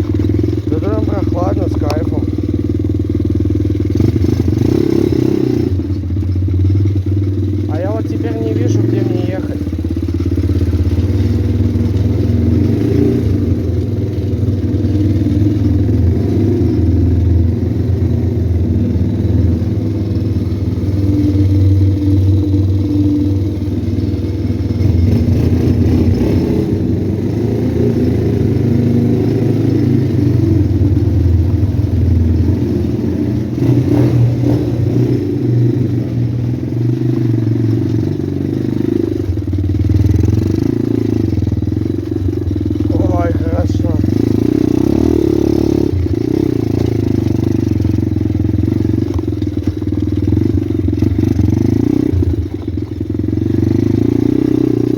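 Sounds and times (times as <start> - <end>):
small motorcycle engine running: 0.0 - 54.9.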